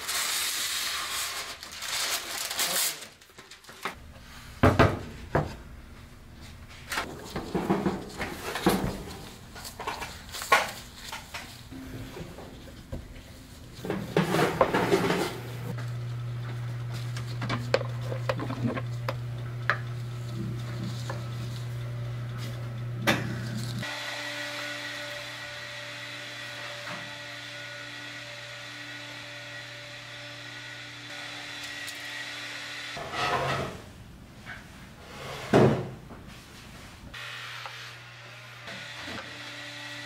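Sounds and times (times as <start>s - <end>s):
low hum of kitchen equipment: 0.0s - 40.0s.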